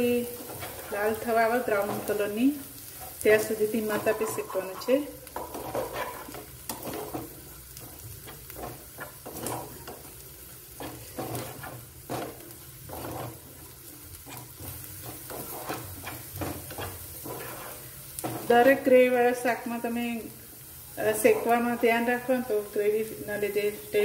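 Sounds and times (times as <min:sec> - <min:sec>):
spatula scraping a pan: 0:00.0 - 0:18.8, 0:21.1 - 0:21.9
onions sizzling in oil: 0:00.0 - 0:24.0.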